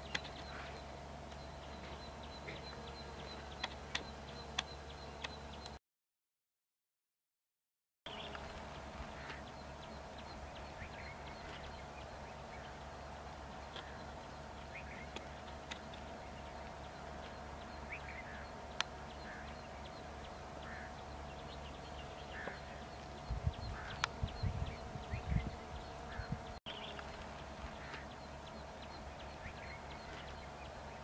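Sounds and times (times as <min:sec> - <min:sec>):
small birds chirping: 0:00.0 - 0:05.8, 0:08.1 - 0:31.0
steady hum: 0:00.0 - 0:05.8, 0:08.1 - 0:31.0.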